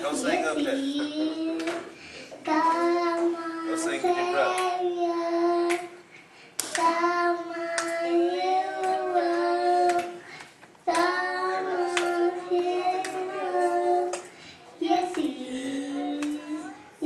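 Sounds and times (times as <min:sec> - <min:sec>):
boy singing into microphone: 0:00.2 - 0:06.0, 0:06.7 - 0:17.0.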